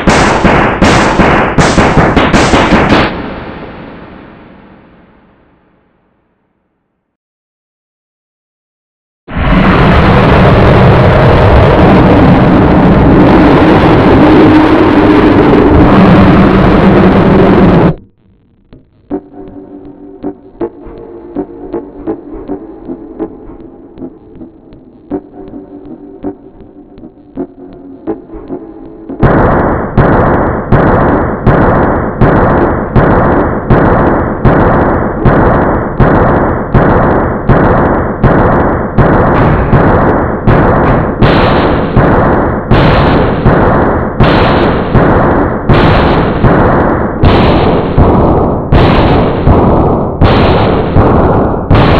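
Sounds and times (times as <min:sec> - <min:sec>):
loud distorted noise: 0:09.3 - 0:51.9.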